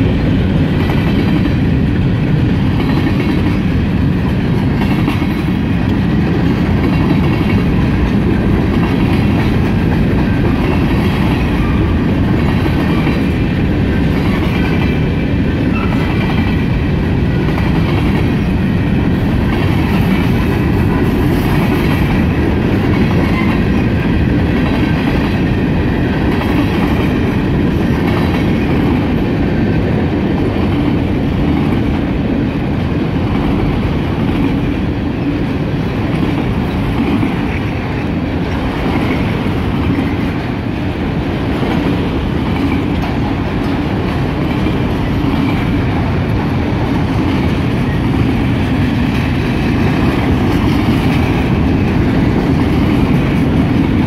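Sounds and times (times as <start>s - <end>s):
steel train wheels on rails: 0.0s - 54.0s.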